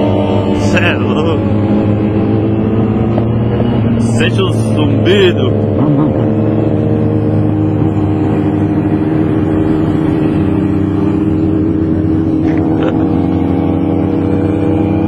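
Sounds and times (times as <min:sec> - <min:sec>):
motorcycle engine buzzing: 0:00.0 - 0:15.0
rush of riding wind: 0:00.0 - 0:15.0.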